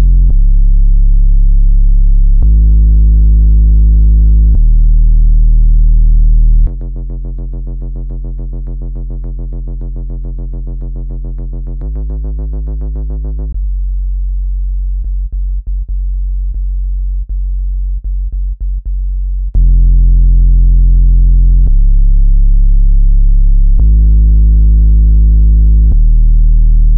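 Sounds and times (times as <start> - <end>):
low hum: 0.0 - 18.6, 19.4 - 26.9.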